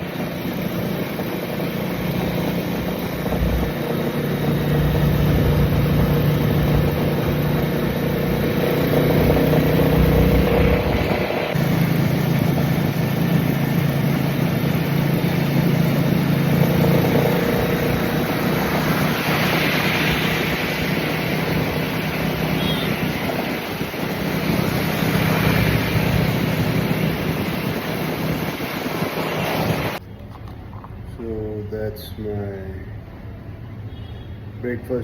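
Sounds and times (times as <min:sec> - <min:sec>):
vehicle engine running: 0:00.0 - 0:31.6
road noise: 0:00.0 - 0:35.0.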